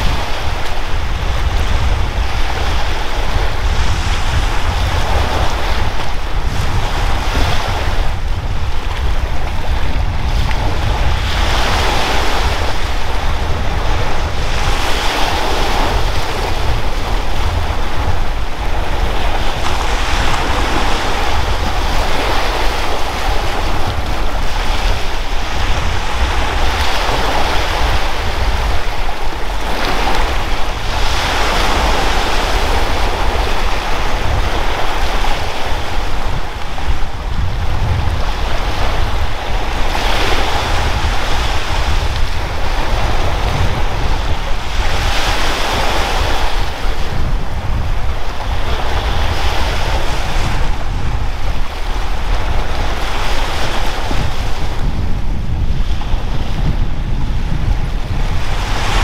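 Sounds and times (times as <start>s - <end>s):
sea waves washing ashore: 0.0s - 59.0s
wind buffeting microphone: 0.0s - 59.0s.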